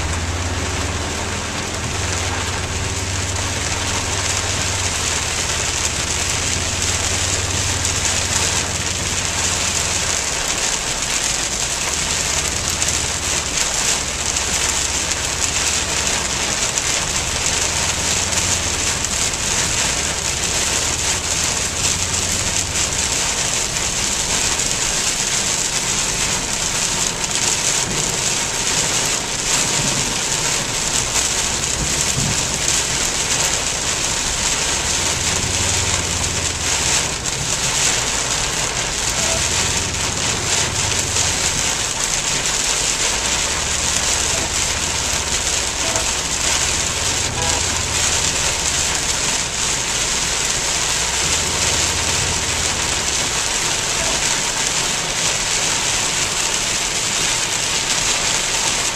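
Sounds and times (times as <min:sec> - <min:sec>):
heavy rain on a car: 0:00.0 - 0:58.9.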